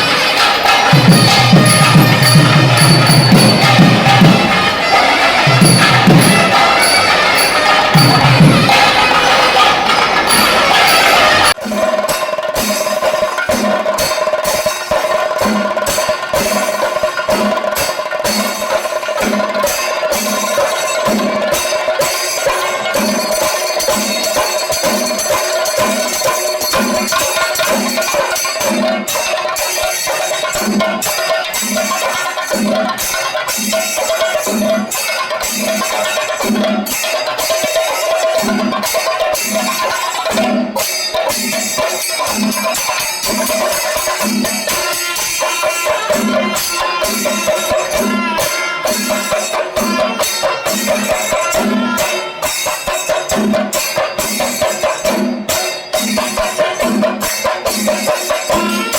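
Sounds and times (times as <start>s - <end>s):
jingling bells: 0.0s - 58.9s
music with percussion: 0.0s - 58.9s.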